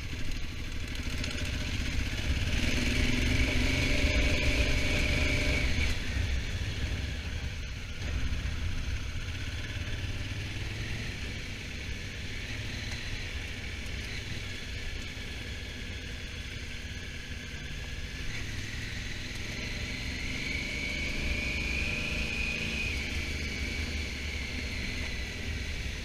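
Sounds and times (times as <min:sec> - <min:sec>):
high engine whine: 0:00.0 - 0:26.0
motorcycle engine running: 0:00.0 - 0:26.0.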